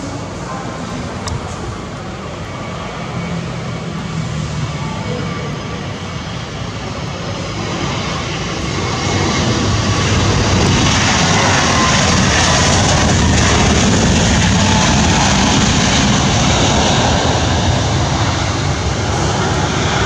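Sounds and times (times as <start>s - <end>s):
jet airliner engines running: 0.0s - 20.0s.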